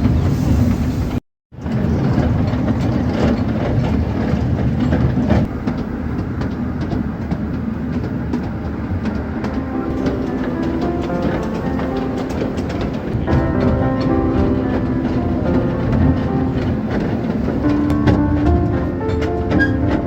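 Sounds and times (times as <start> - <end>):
train rumbling: 0.0 - 20.0
wheels clacking over rail joints: 1.6 - 20.0.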